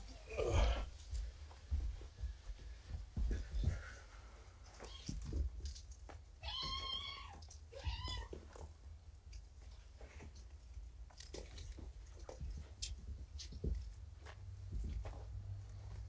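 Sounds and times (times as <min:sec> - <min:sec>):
kittens moving about: 0:00.8 - 0:16.0.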